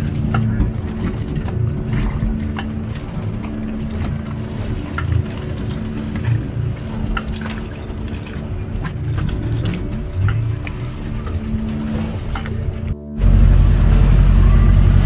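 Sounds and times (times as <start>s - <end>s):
water slapping against hull: 0.0s - 13.2s
boat engine running: 0.0s - 15.0s.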